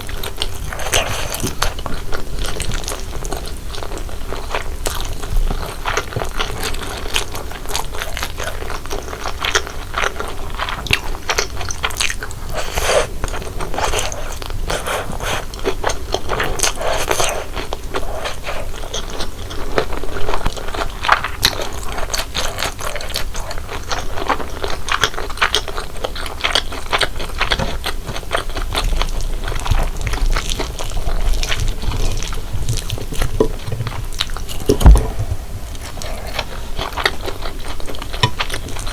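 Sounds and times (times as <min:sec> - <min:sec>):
chewing noodles: 0:00.0 - 0:38.9.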